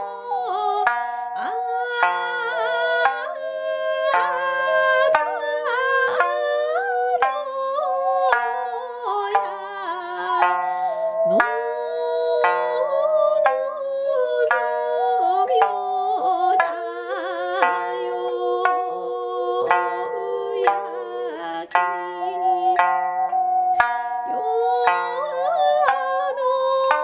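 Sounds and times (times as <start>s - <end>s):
person singing: 0.0s - 27.0s
plucked lute: 0.0s - 27.0s.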